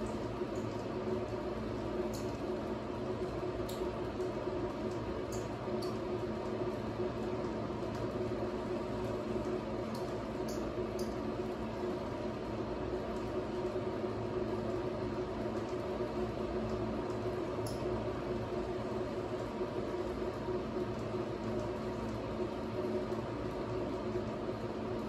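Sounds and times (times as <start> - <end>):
appliance hum and hiss: 0.0 - 25.0.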